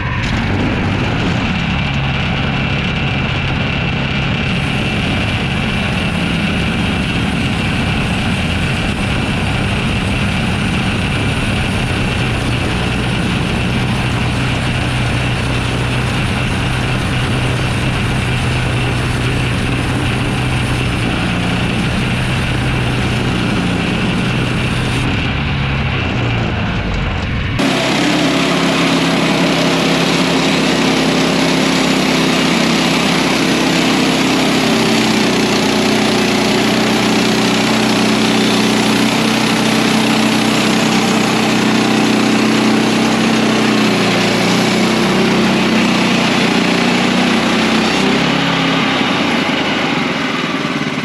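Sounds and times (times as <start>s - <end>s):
bandsaw mill sawing log: 0.0s - 27.0s, 27.6s - 51.0s.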